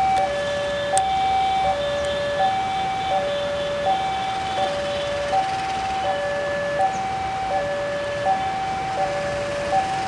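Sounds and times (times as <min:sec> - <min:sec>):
level crossing two-tone alarm: 0:00.0 - 0:10.0.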